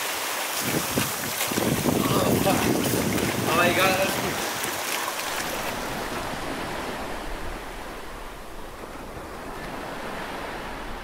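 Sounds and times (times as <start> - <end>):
surf washing: 0.0 - 11.0.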